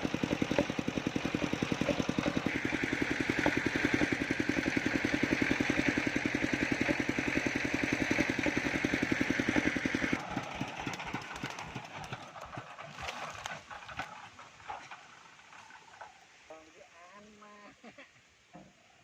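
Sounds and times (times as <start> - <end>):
sawmill engine running: 0.0 - 16.5.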